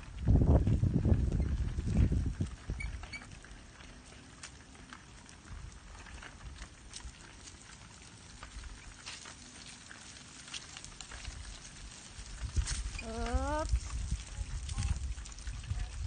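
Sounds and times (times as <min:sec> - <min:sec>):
bicycle rolling over concrete: 0:00.0 - 0:16.0.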